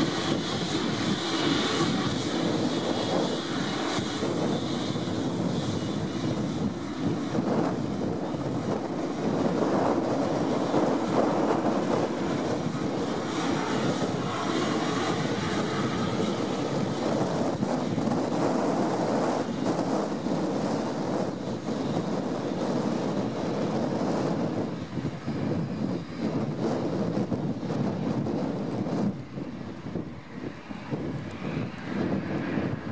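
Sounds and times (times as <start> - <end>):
jet engines taxiing: 0.0 - 32.9.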